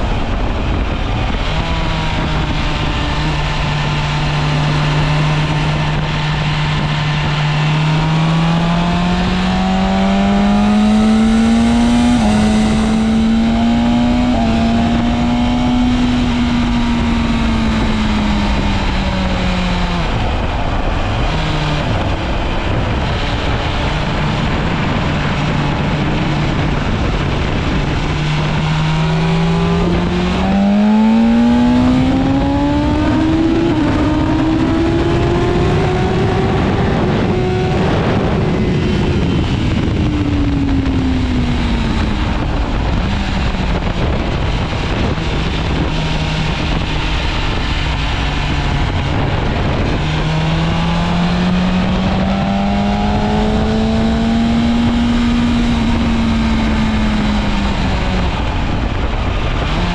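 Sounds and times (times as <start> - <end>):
motorcycle engine at speed: 0.0 - 59.9
wind noise: 0.0 - 59.9.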